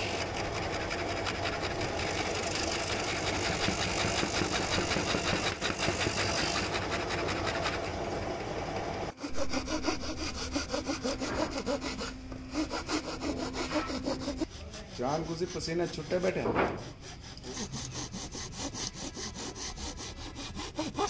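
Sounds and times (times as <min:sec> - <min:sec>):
scroll saw cutting wood: 0:00.0 - 0:08.2, 0:09.1 - 0:21.0.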